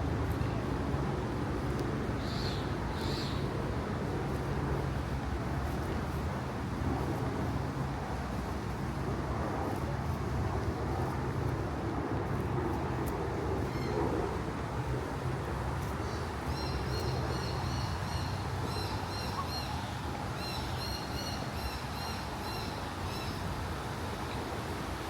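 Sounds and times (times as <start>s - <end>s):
city traffic hum: 0.0s - 25.0s.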